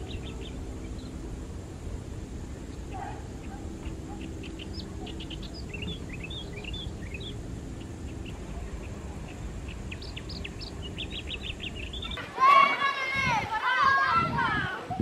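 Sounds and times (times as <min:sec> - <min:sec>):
low rumble: 0:00.0 - 0:12.2
small birds chirping: 0:00.0 - 0:12.3.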